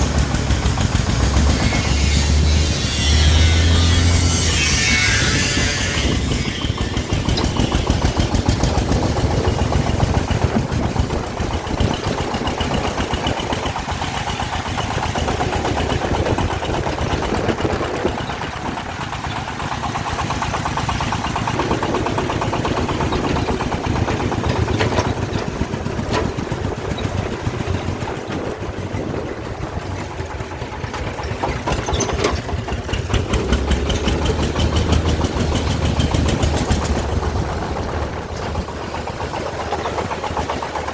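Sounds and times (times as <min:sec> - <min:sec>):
diesel engine knocking: 0:00.0 - 0:02.2, 0:05.6 - 0:40.9.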